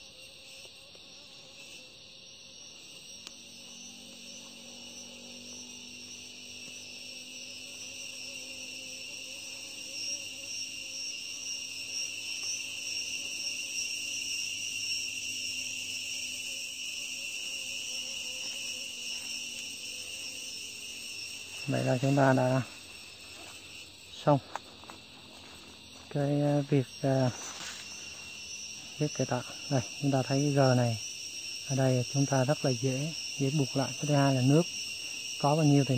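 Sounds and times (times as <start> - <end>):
insects chirring: 0.0 - 35.9.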